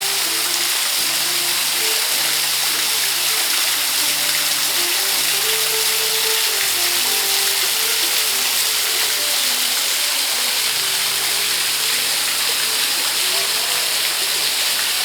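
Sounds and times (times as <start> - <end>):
slow melody with bass line: 0.0 - 14.9
water falling: 0.0 - 15.0.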